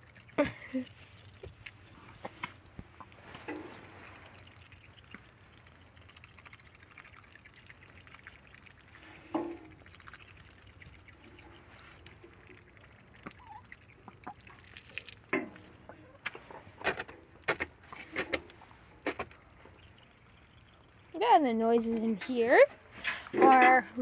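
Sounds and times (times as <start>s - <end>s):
duck bills dabbling in water: 0.0s - 16.2s, 17.2s - 21.3s.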